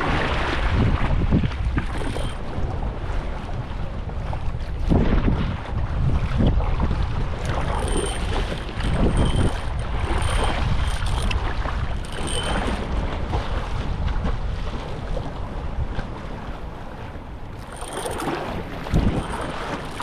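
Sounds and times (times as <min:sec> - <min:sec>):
sea water splashing around kayak: 0:00.0 - 0:20.0
wind buffeting microphone: 0:00.0 - 0:20.0.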